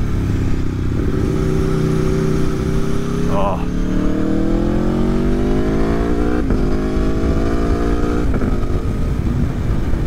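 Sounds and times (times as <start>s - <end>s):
motorcycle engine accelerating: 0.0s - 10.0s
wind rush: 0.9s - 10.0s.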